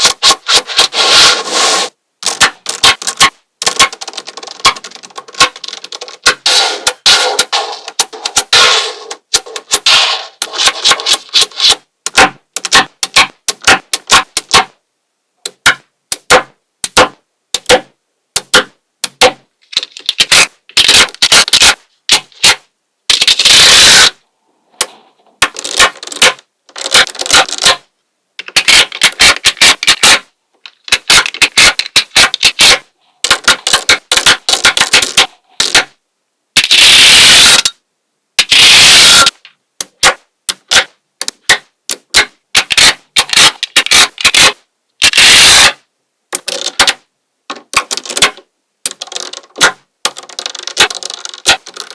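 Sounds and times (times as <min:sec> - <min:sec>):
magnetic balls clicking together: 0:02.2 - 0:14.8, 0:15.4 - 0:23.8, 0:24.8 - 0:36.0, 0:38.4 - 0:51.9.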